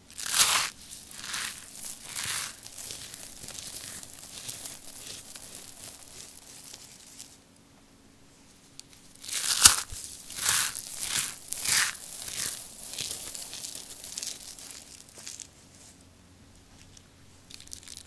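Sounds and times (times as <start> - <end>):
dry soap crunching by hand: 0.0 - 7.4, 8.8 - 15.5, 16.8 - 18.0
soap crumbs pattering: 0.0 - 7.4, 8.8 - 15.5, 16.8 - 18.0.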